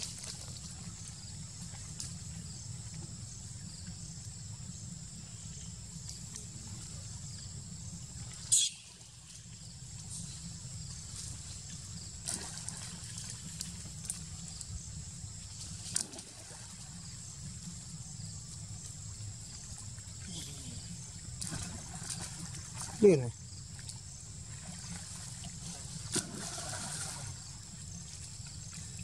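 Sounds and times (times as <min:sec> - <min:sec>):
shallow water trickling and sloshing: 0:00.0 - 0:29.0.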